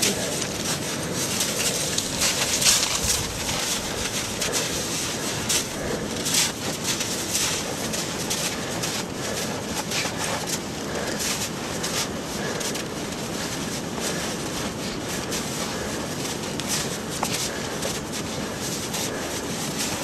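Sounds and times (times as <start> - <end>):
snow crunching and scraping: 0.0 - 20.0.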